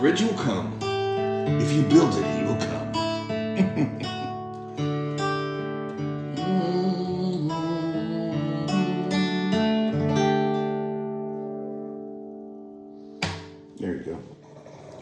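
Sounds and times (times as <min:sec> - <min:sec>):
guitar strumming chords: 0:00.0 - 0:14.1.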